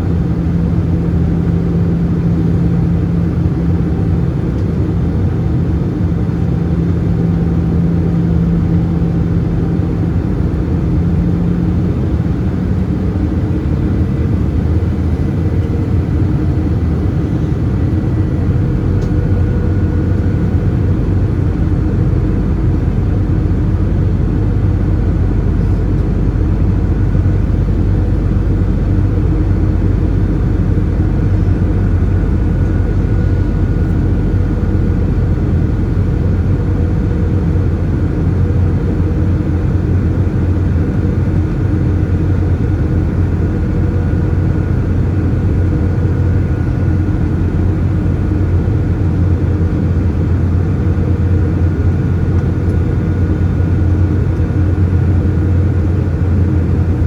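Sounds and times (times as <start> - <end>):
aircraft cabin engine hum: 0.0 - 57.0.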